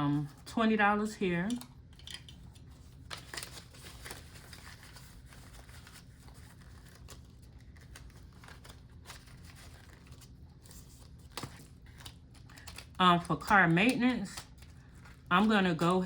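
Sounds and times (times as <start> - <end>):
low room hum: 0.0 - 16.0
paper money rustling: 1.3 - 16.0.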